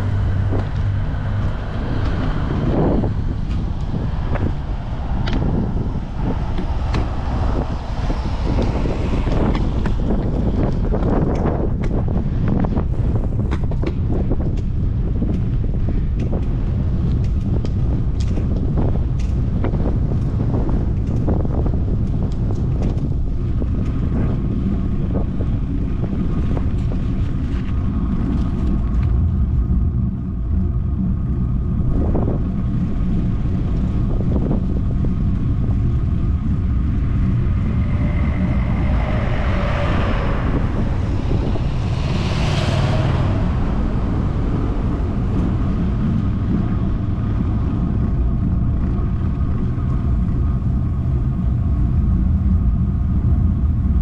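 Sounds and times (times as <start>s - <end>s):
rushing noise: 0.0s - 15.9s, 23.4s - 54.0s
motorcycle engine and road drone: 0.0s - 54.0s
wind buffeting microphone: 0.0s - 54.0s.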